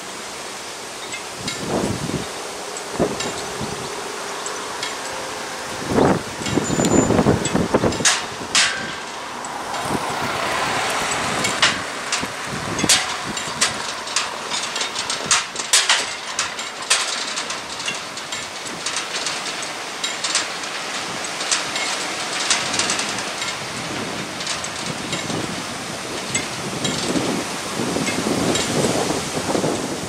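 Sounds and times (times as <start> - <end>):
barrier drives clicking and rattling: 0.9 - 30.0.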